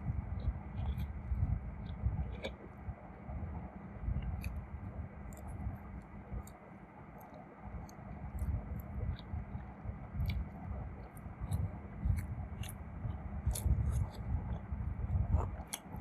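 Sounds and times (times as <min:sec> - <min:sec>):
chewing crunchy food: 0:00.0 - 0:16.0.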